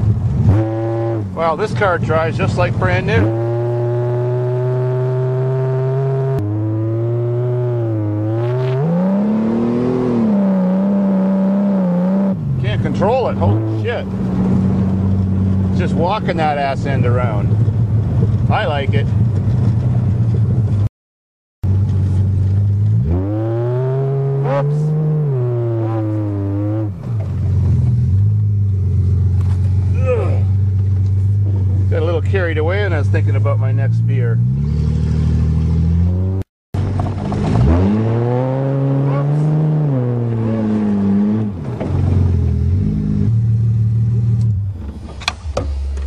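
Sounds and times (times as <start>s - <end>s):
car engine revving with whine: 0.0s - 20.9s, 21.7s - 46.0s.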